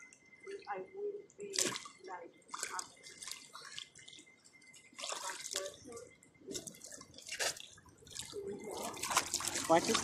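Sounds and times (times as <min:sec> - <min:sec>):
pool water splashing: 0:01.5 - 0:10.0.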